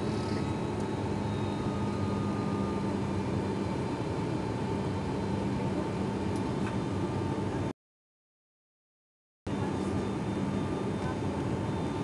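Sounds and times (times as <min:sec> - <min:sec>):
turboprop engine drone: 0:00.0 - 0:07.7, 0:09.5 - 0:12.0.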